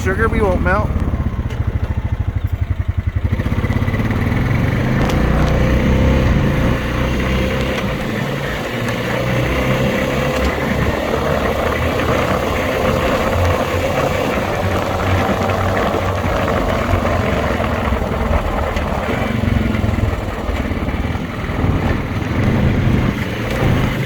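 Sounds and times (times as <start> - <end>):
quad bike engine running: 0.0 - 24.0
road noise: 0.0 - 24.0.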